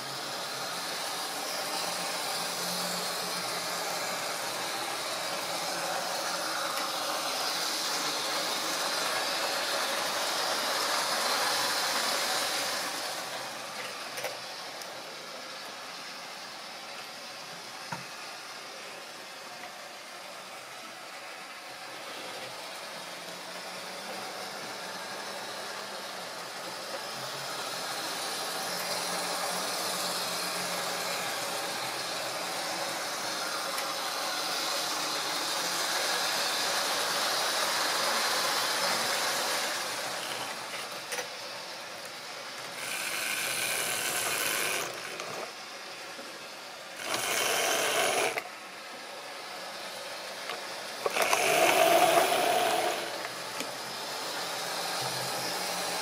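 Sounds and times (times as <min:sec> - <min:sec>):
model trains whirring on track: 0:00.0 - 0:56.0.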